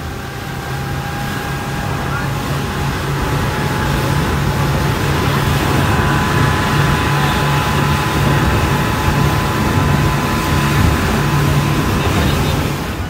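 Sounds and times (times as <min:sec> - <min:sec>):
speedboat engine running: 0:00.0 - 0:13.0.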